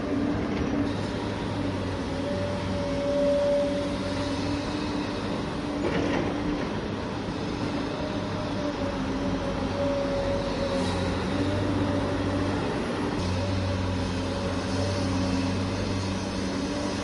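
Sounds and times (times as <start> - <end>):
electric motors whining hum: 0.0 - 17.0.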